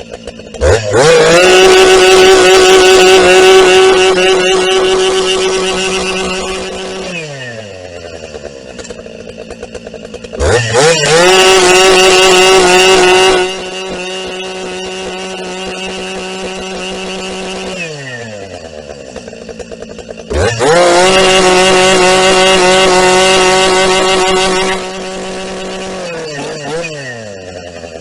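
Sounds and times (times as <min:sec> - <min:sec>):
chainsaw revving: 0:00.0 - 0:28.0.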